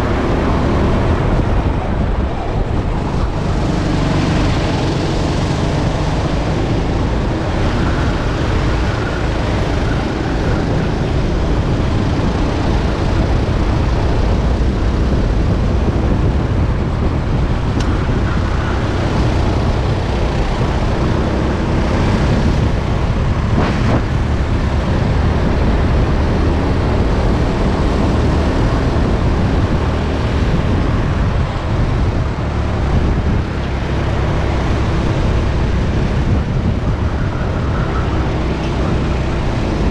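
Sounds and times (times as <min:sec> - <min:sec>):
go-kart engine racing: 0:00.0 - 0:39.9
wind rushing on microphone: 0:00.0 - 0:39.9.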